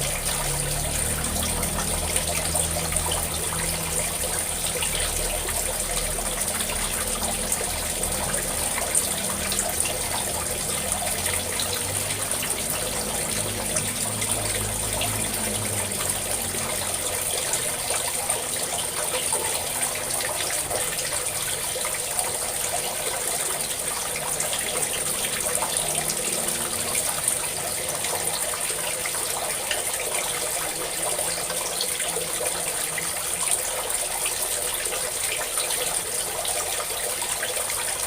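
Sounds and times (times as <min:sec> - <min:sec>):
water pouring and splashing: 0:00.0 - 0:38.0.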